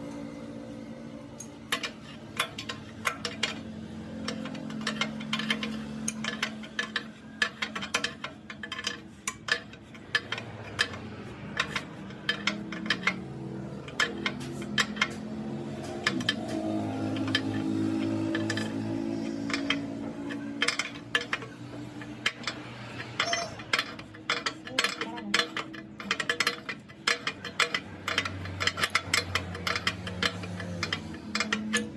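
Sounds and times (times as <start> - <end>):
sharp metallic clicks and taps: 1.4 - 31.9.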